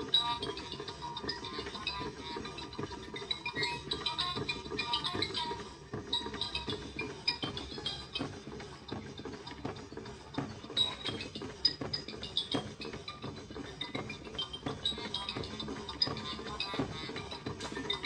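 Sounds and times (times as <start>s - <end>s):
light music with ticking percussion: 0.0s - 18.0s.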